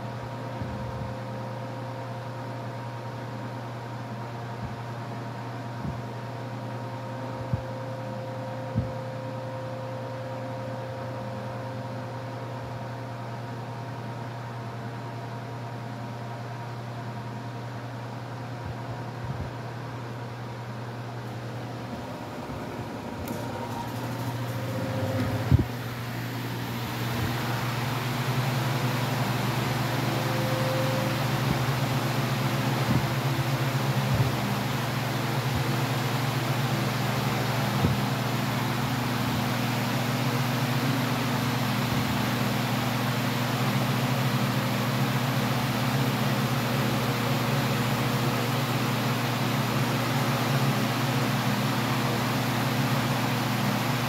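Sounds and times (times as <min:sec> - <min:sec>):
floor fans rushing air: 0:00.0 - 0:54.0.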